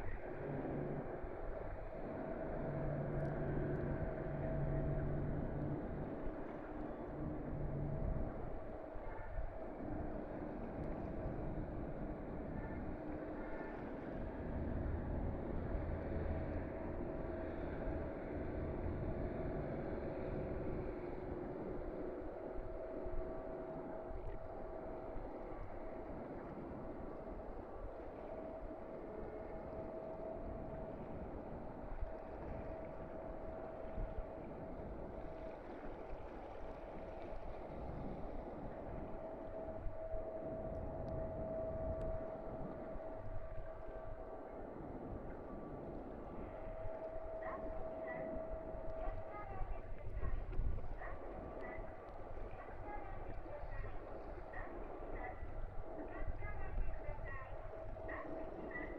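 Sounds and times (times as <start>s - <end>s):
constant hum: 0.0s - 58.9s
ship engine drone: 0.0s - 58.9s
water noise: 0.0s - 58.9s
wind: 0.0s - 58.9s.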